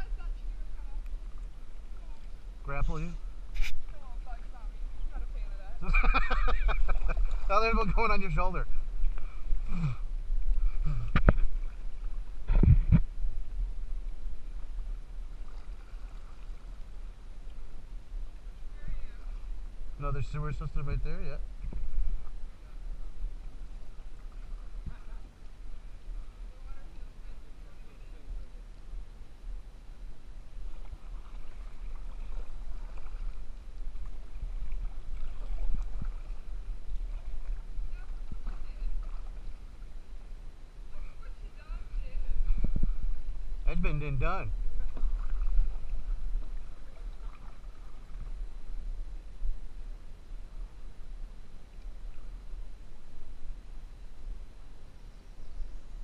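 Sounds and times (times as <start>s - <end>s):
water splashing: 0.0s - 28.6s, 30.5s - 48.8s
wind rumble on microphone: 0.0s - 56.0s.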